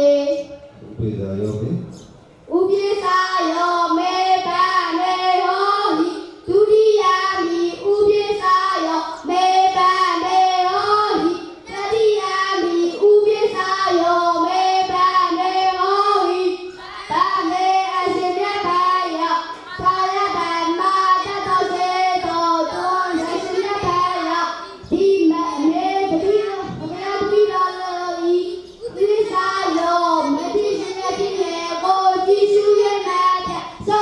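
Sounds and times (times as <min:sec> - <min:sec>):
child chanting into a microphone: 0:00.0 - 0:00.7, 0:02.5 - 0:34.0.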